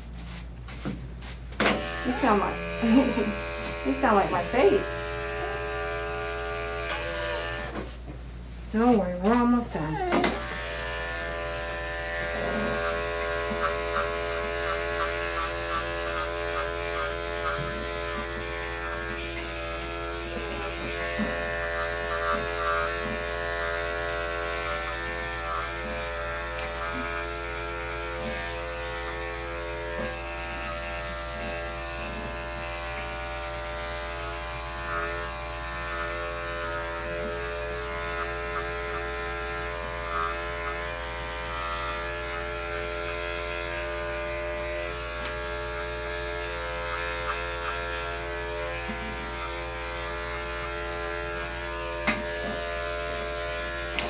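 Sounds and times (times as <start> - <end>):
electric clippers buzzing: 1.5 - 8.0, 8.8 - 54.0.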